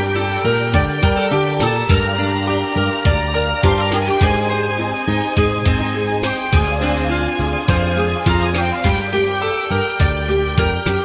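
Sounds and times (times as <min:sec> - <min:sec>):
instrumental music with bass notes: 0:00.0 - 0:11.0.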